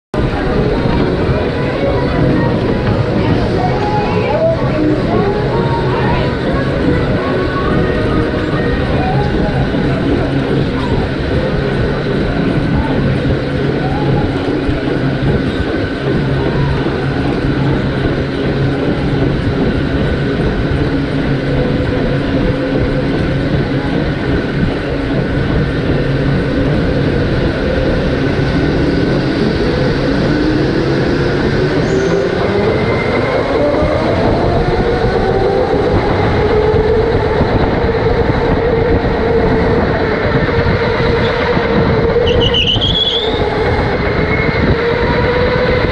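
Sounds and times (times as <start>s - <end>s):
rushing noise: 0.1s - 45.9s.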